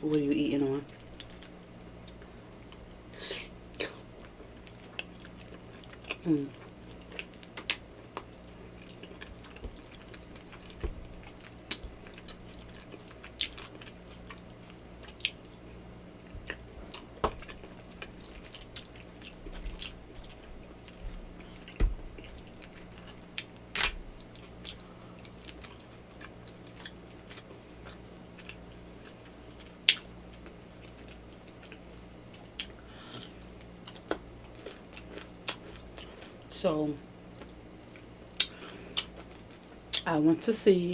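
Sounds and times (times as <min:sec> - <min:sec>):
person chewing: 0:00.9 - 0:36.5, 0:37.3 - 0:40.0.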